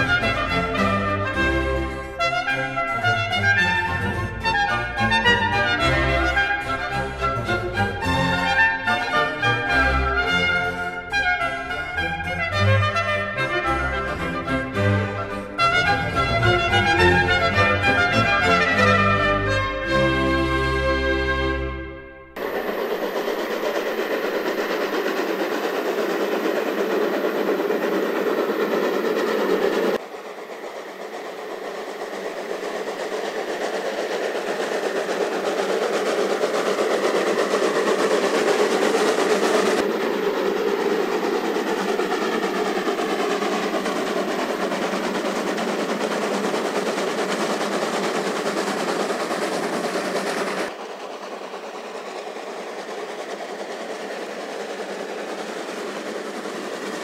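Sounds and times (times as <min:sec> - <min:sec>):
steam train running on rails: 0:00.0 - 0:57.0.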